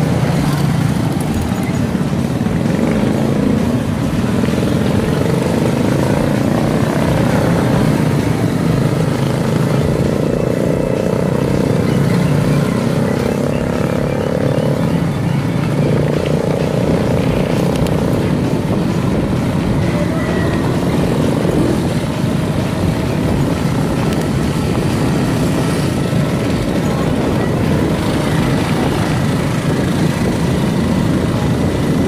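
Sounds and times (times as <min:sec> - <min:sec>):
small motorcycle engines droning: 0:00.0 - 0:32.0.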